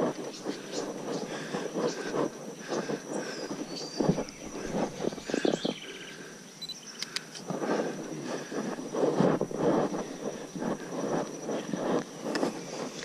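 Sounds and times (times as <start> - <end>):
birds calling: 0.0 - 13.0
faint high whine: 0.0 - 13.0.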